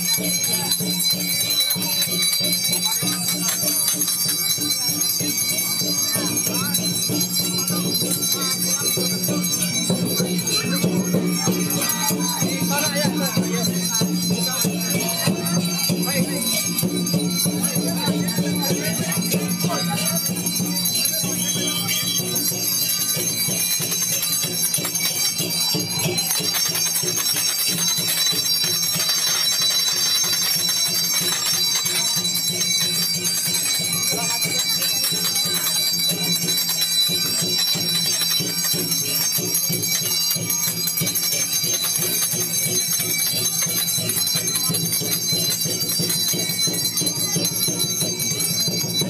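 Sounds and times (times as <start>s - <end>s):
rapid bell ringing: 0.0s - 49.0s
ritual percussion: 0.0s - 49.0s.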